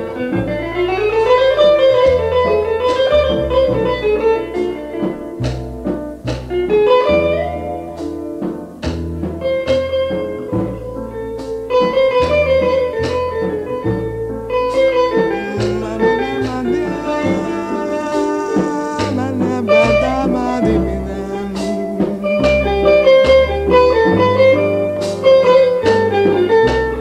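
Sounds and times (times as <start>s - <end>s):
held bass notes: 0.0s - 27.0s
plucked guitar melody: 0.0s - 27.0s.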